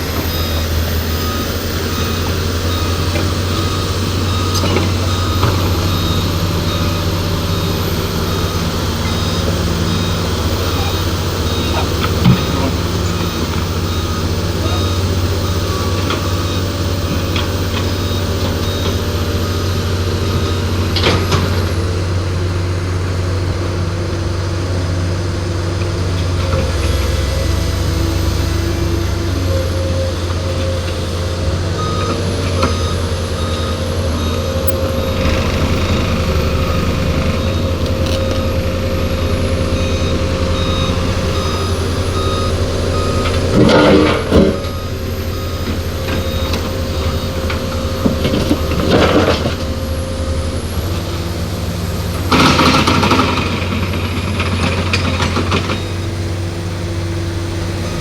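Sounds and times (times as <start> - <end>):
reversing alarm beeping: 0.0 - 22.5, 26.4 - 58.0
diesel engine droning: 0.0 - 58.0.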